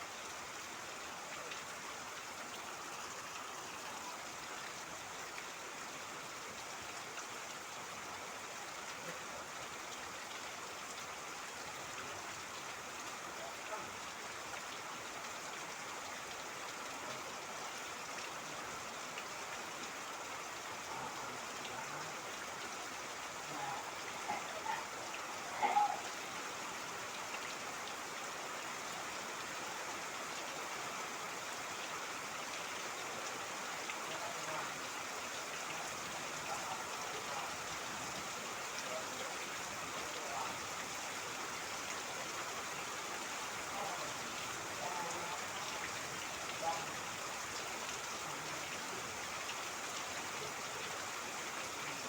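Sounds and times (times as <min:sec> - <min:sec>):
steady rain falling: 0:00.0 - 0:52.0
water trickling and splashing: 0:00.0 - 0:52.0.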